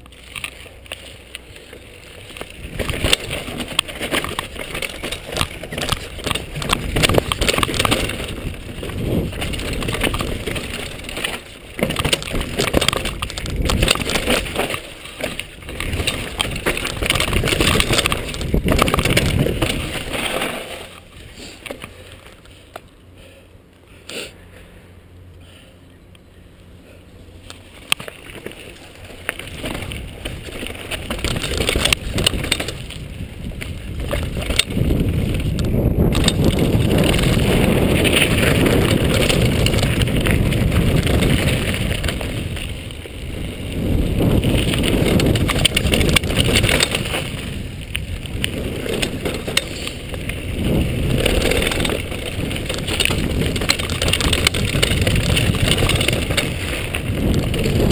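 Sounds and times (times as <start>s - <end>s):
bike rattling and knocking: 0.0s - 22.9s, 27.5s - 57.9s
tyres rolling over dirt: 0.0s - 23.0s, 27.3s - 57.9s
wind rushing over microphone: 2.3s - 20.2s, 29.4s - 57.9s.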